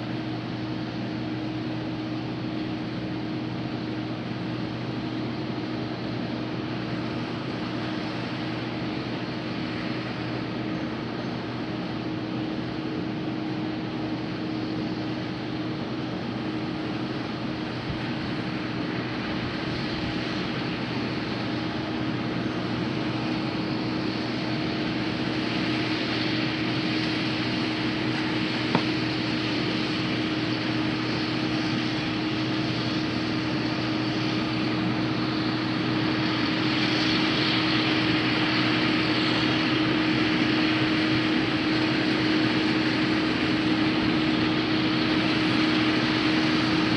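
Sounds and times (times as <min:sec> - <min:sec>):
combine harvester engine hum: 0:00.0 - 0:46.9.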